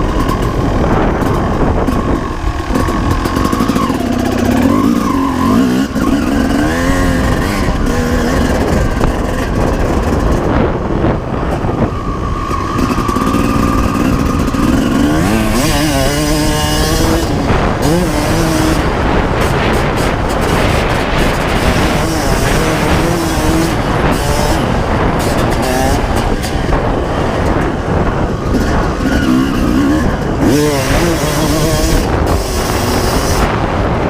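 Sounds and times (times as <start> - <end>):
motocross engine revving: 0.0 - 34.0.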